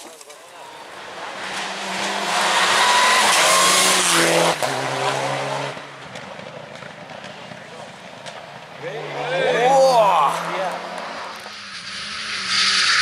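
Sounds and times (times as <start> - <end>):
rally car engine passing: 0.5 - 13.0.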